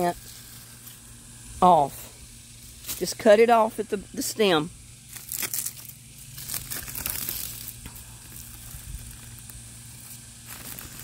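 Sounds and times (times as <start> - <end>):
dry leaves rustling and crackling: 0.0 - 1.6, 2.5 - 11.0.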